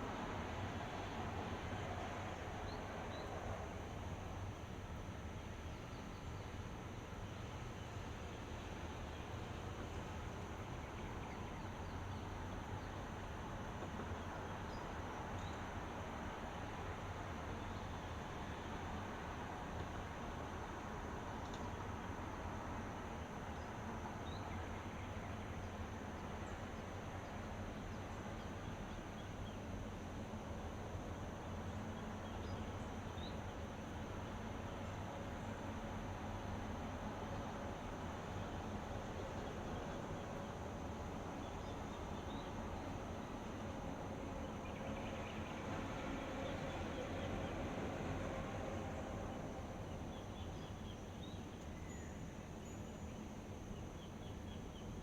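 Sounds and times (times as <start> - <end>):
faint low hum: 0.0 - 55.0
outdoor hiss: 0.0 - 55.0.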